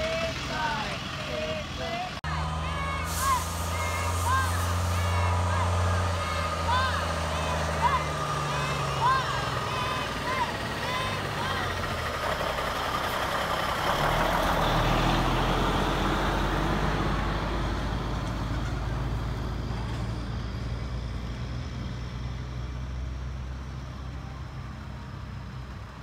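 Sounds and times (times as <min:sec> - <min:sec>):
truck diesel engine passing: 0:00.0 - 0:26.0.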